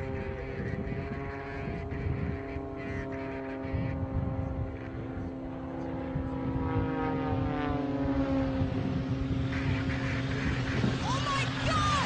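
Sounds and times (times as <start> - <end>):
propeller airplane engine overhead: 0.0 - 12.0.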